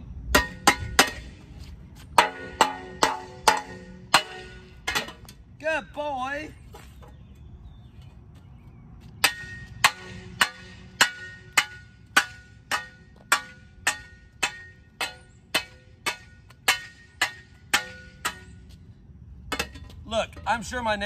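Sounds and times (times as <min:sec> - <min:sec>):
metal shovel clanging on asphalt: 0:00.3 - 0:05.5, 0:09.2 - 0:21.0.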